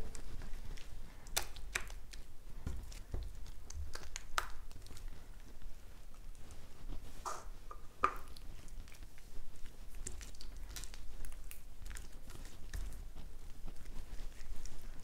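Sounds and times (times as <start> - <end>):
wet slime squelches: 0.0 - 15.0.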